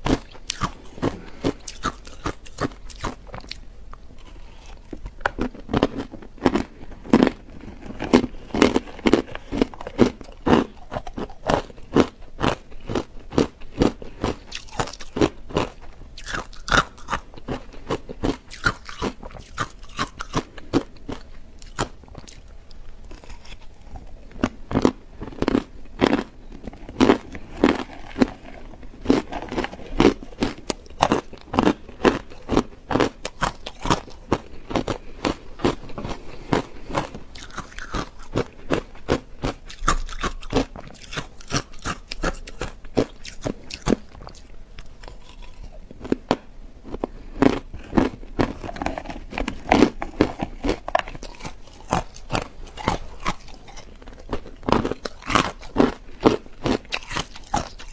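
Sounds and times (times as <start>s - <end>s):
ice crunching between teeth: 0.0s - 57.9s.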